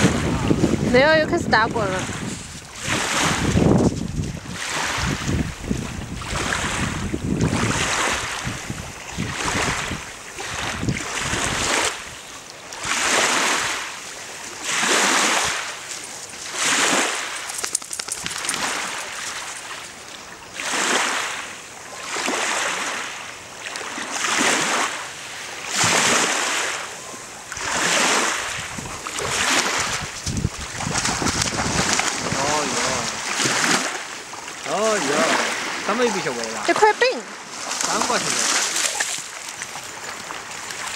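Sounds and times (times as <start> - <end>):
small waves washing onto shore: 0.0 - 40.9.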